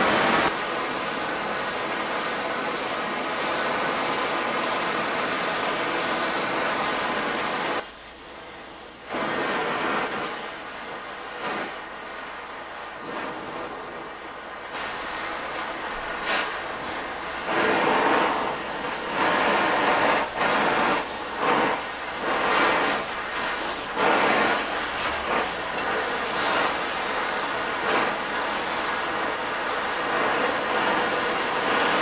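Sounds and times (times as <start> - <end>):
torch flame hissing: 0.0 - 32.0.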